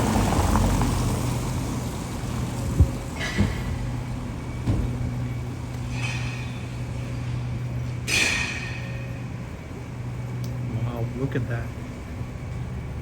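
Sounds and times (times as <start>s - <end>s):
low vehicle hum: 0.0s - 13.0s.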